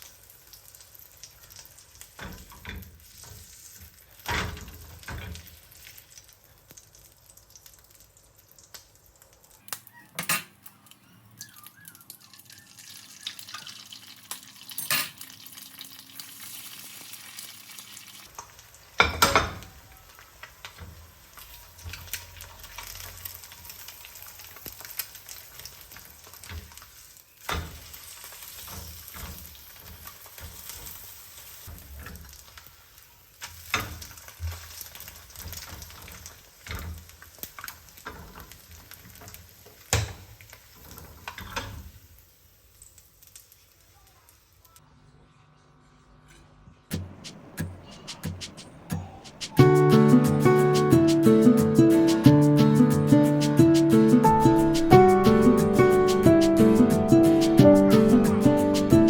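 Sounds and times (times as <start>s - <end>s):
food sizzling in a pan: 0.0s - 44.8s, 46.9s - 59.0s.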